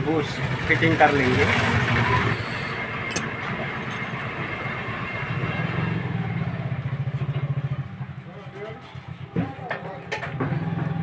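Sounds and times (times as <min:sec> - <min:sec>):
engine running with low pulse: 0:00.0 - 0:11.0.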